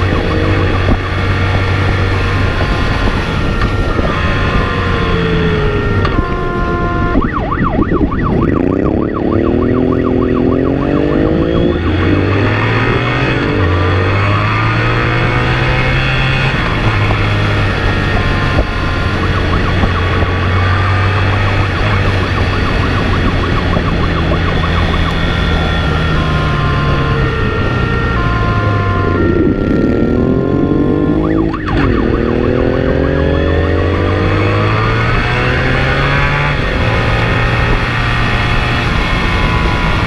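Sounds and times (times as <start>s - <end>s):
motorcycle engine accelerating: 0.0s - 40.0s
police motorcycle siren: 0.0s - 40.0s.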